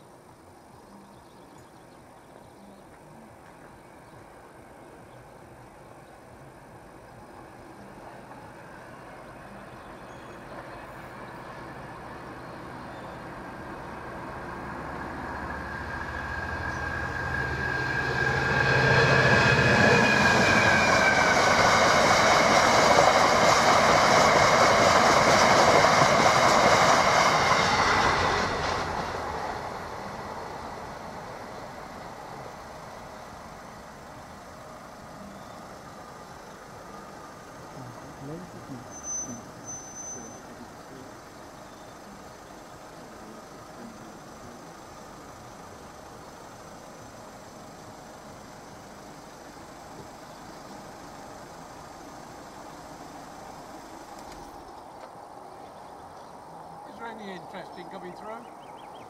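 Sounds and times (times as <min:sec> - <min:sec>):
freight train passing: 0:01.8 - 0:59.0.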